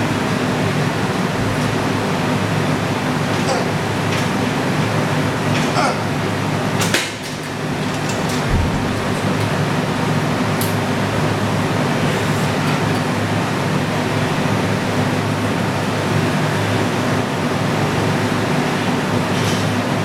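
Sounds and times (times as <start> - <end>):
low motor hum: 0.0 - 5.4, 6.2 - 18.4
fan air rushing: 0.0 - 20.0.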